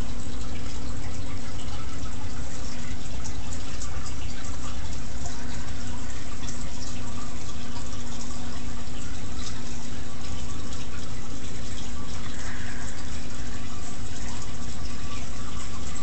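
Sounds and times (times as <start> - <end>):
aquarium water bubbling: 0.0 - 16.0.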